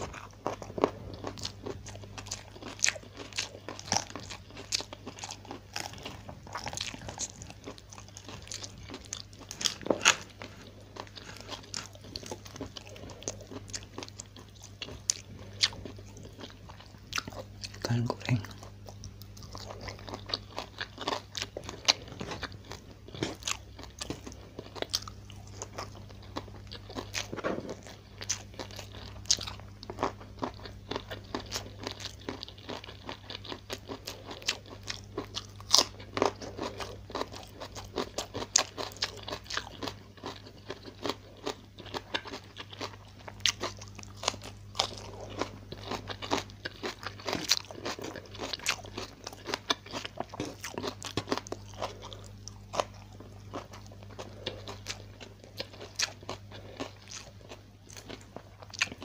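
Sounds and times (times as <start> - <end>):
man chewing with crunches: 0.0 - 59.0.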